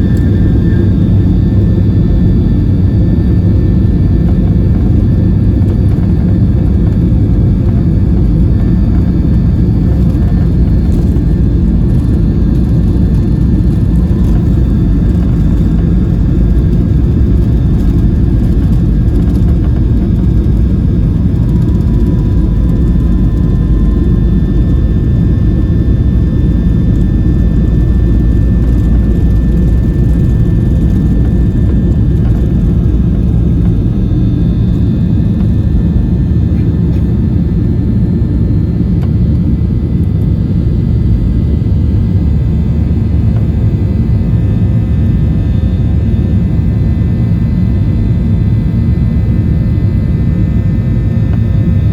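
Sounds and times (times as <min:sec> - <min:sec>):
faint steady whines: 0:00.0 - 0:51.9
jet engines in airplane cabin: 0:00.0 - 0:51.9.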